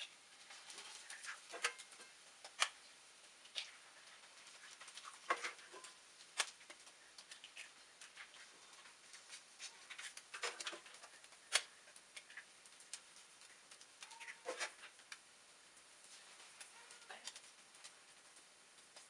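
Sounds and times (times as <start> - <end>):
vegetables frying in a pan: 0.0 - 19.0.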